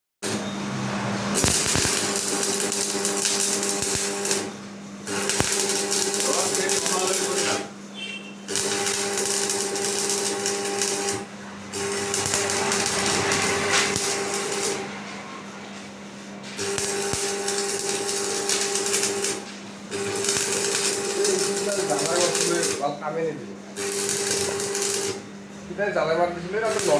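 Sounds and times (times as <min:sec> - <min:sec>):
welding machine electrical hum: 0:00.2 - 0:26.9
welding arc crackling and sizzling: 0:01.2 - 0:07.8, 0:08.4 - 0:15.1, 0:16.4 - 0:22.9, 0:23.7 - 0:25.3, 0:26.6 - 0:26.9.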